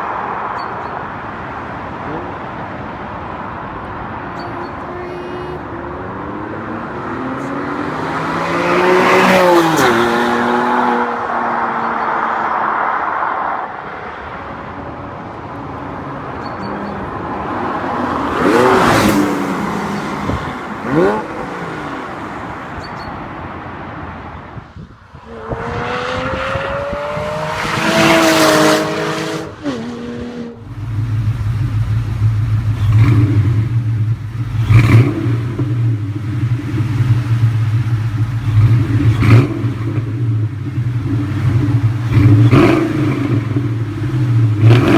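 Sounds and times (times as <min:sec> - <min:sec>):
car passing: 0:00.0 - 0:44.9
car engine revving: 0:03.2 - 0:24.2, 0:25.2 - 0:44.9.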